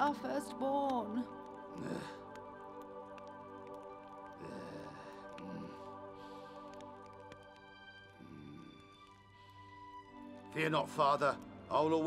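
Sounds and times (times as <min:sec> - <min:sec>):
soft sustained background music chord: 0:00.0 - 0:12.0.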